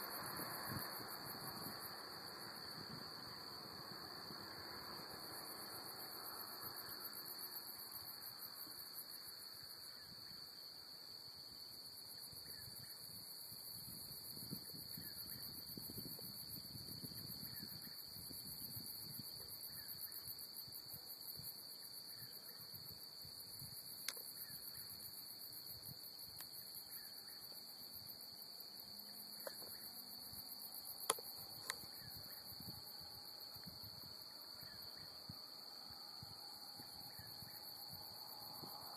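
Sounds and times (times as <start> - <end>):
night insects trilling: 0.0 - 38.9.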